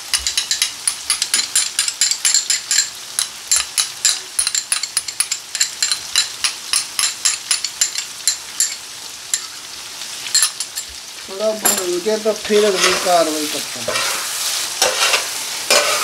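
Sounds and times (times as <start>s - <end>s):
meat sizzling with crackles: 0.0s - 16.0s.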